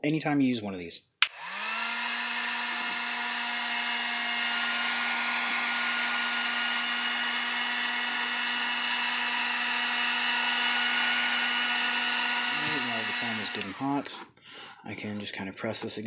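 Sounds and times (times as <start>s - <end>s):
heat gun fan hum and whine: 1.2s - 14.2s.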